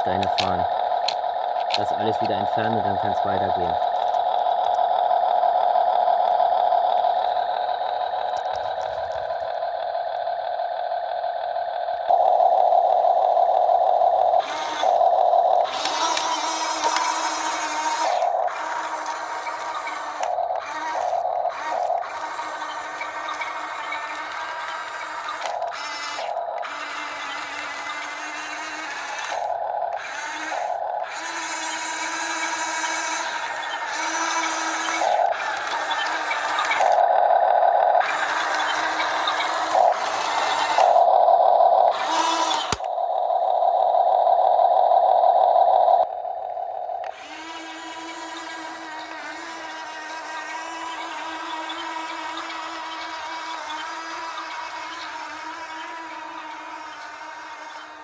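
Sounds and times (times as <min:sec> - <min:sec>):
small electric motors whining: 0:00.0 - 0:43.0, 0:46.7 - 0:58.0.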